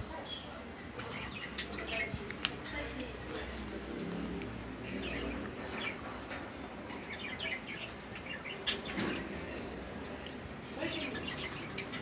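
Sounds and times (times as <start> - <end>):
small cage birds chirping: 0.0 - 12.0.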